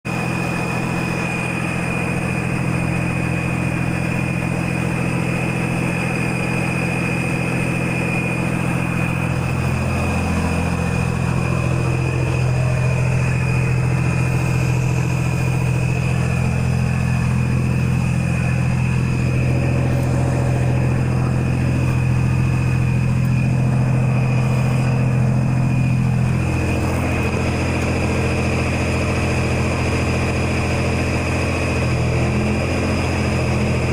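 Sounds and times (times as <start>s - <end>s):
open exhaust diesel drone: 0.0s - 33.9s.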